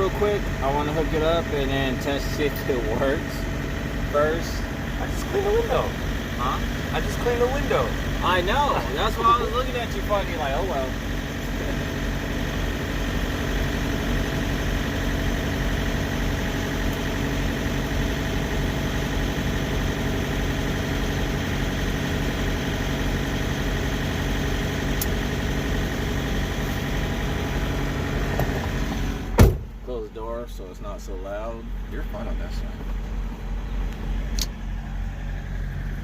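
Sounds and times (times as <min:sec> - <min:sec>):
truck diesel engine idling: 0:00.0 - 0:36.0.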